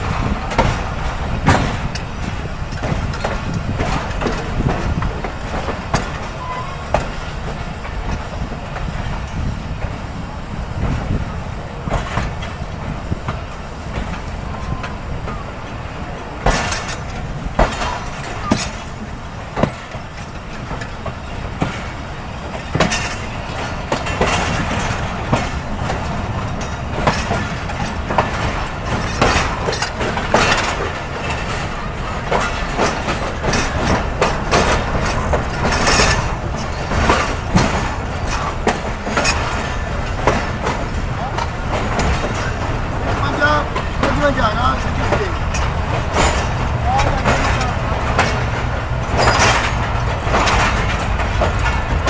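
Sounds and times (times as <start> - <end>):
train wheels rumbling on track: 0.0 - 52.0
wheels clacking over rail joints: 0.0 - 52.0.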